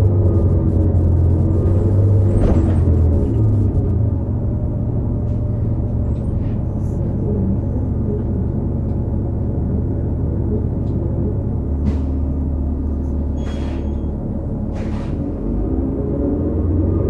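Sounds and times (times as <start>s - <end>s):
bus drone from inside: 0.0s - 17.0s.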